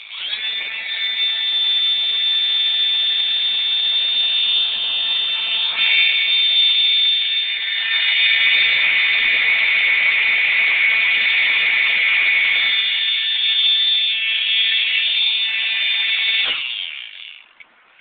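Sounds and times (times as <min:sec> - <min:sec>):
siren high-pitched tone: 0:00.1 - 0:09.9, 0:11.5 - 0:16.6.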